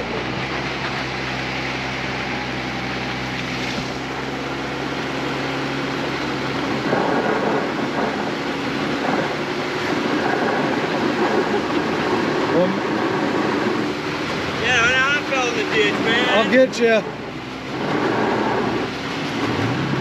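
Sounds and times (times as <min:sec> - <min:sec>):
vehicle engine humming: 0:00.0 - 0:20.0
rushing noise: 0:01.2 - 0:20.0.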